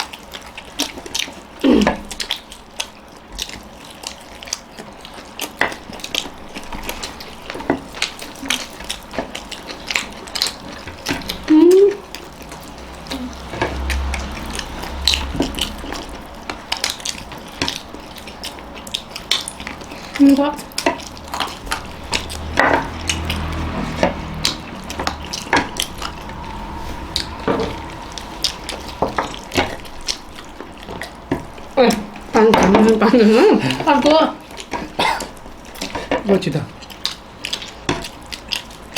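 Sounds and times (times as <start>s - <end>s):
people chewing: 0.0s - 38.9s.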